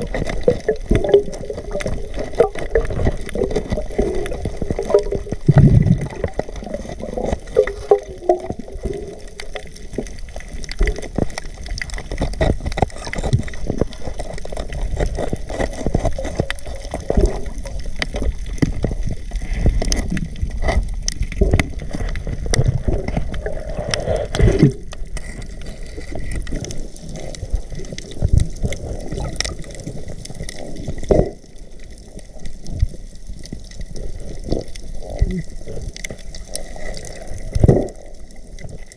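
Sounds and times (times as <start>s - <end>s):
water gurgling underwater: 0.0s - 38.9s.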